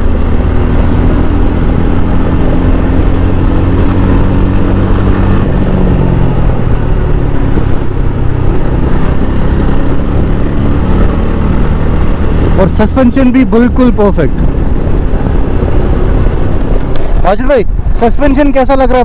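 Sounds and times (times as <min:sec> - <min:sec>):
motorcycle engine running: 0:00.0 - 0:19.0
road noise: 0:00.0 - 0:19.0
wind noise: 0:00.0 - 0:19.0.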